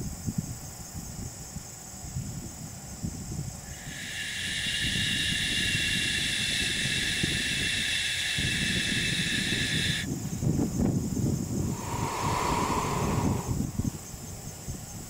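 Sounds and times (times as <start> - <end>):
wind rumble on microphone: 0.0 - 15.0
high-pitched hiss: 2.1 - 15.0.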